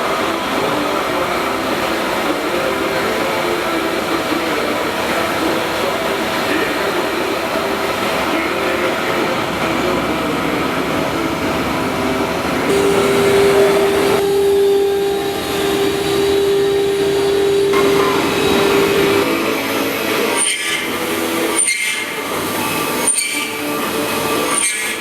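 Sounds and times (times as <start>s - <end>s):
steady whine-like tone: 0.0s - 24.5s
milling machine cutting noise: 0.0s - 25.0s.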